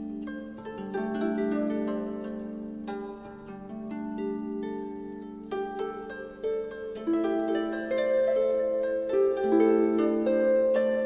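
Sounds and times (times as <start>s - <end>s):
plucked string melody: 0.0s - 11.0s.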